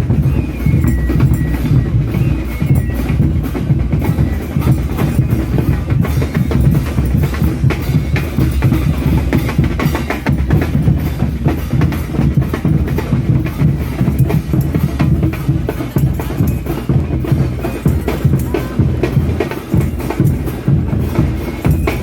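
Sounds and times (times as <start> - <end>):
bass drums beating: 0.0 - 22.0
cymbals clashing: 0.0 - 22.0.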